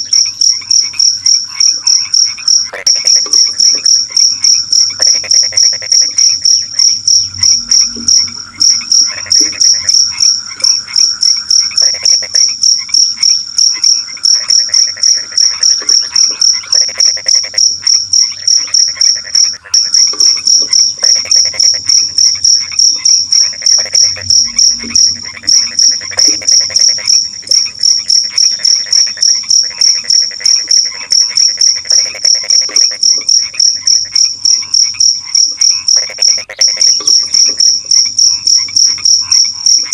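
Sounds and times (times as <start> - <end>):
animals croaking: 0.0 - 39.9
crickets chirping: 0.0 - 39.9.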